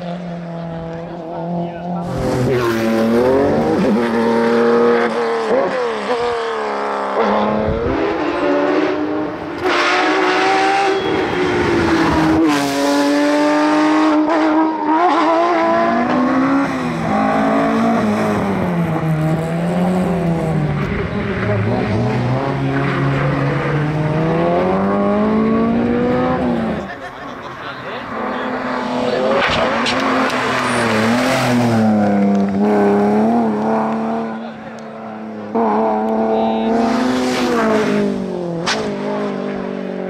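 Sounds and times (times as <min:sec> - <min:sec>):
rally car engines revving: 0:00.0 - 0:40.0.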